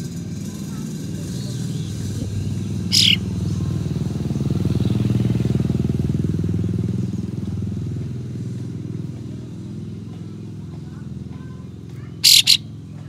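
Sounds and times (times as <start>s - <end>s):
motorcycle engine passing: 0.0s - 13.0s.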